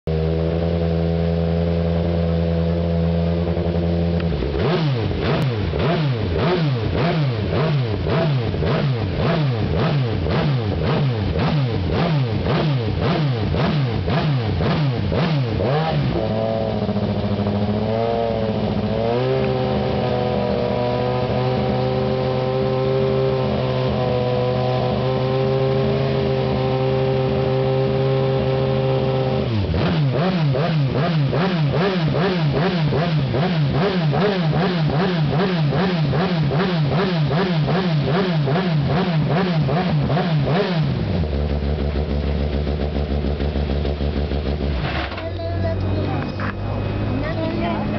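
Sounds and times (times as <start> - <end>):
racing car engine revving: 0.1 - 47.9.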